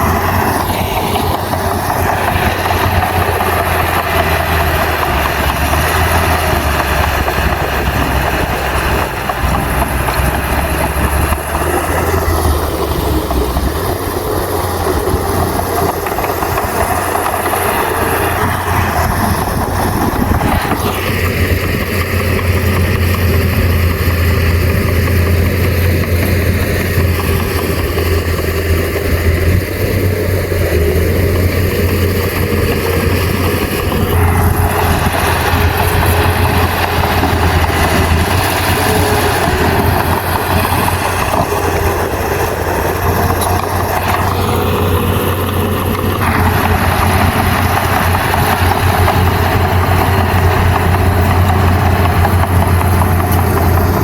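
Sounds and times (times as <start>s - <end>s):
heavy diesel engine humming: 0.0s - 54.0s
rough mid-range noise: 0.0s - 54.0s.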